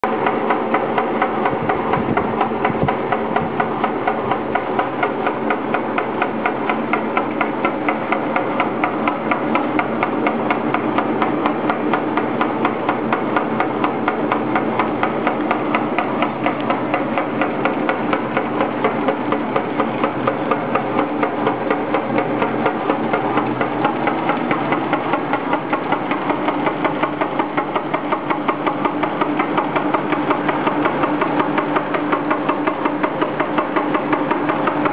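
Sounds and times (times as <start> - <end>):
fast repeating machine knocking: 0.0 - 34.9
machine motor hum: 0.0 - 34.9.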